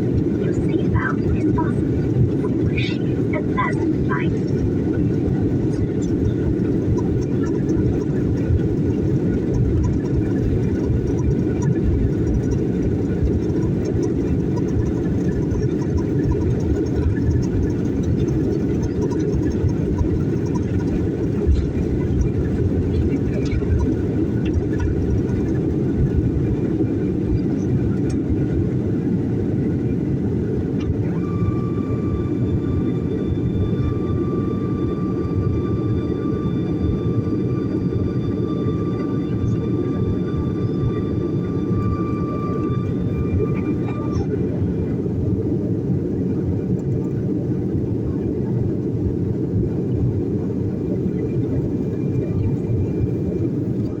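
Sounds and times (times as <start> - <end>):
jet engines rumbling: 0.0 - 54.0
thin whine: 0.0 - 54.0.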